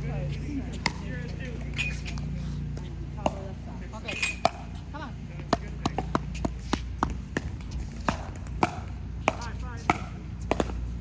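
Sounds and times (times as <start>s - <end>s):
paddles striking plastic ball: 0.7s - 3.6s, 4.2s - 11.0s.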